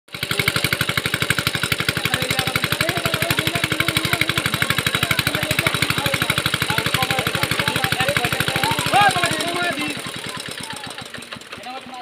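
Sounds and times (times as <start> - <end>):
small engine chugging: 0.1 - 12.0.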